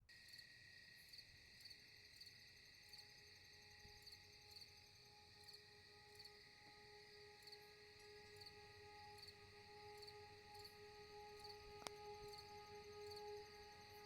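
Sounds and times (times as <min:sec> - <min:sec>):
crickets chirping: 0:00.1 - 0:14.0.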